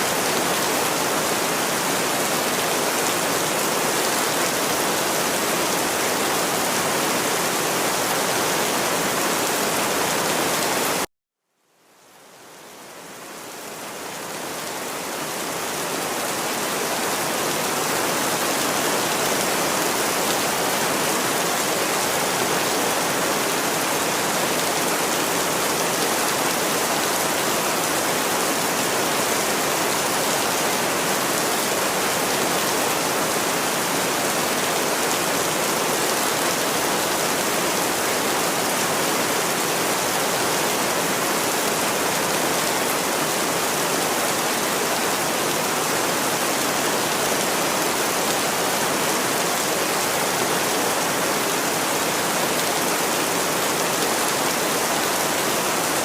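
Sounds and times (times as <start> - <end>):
steady dense rain: 0.0 - 56.0.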